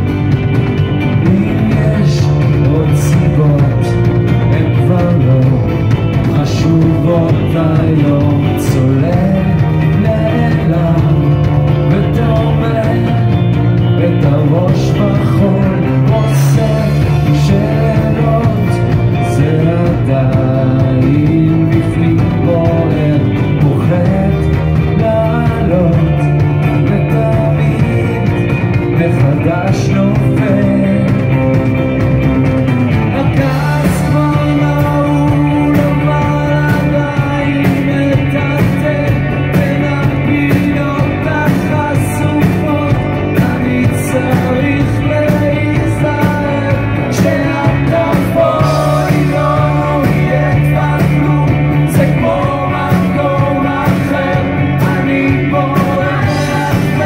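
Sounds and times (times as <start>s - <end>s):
live rock band playing: 0.0s - 57.0s
man singing: 1.0s - 57.0s.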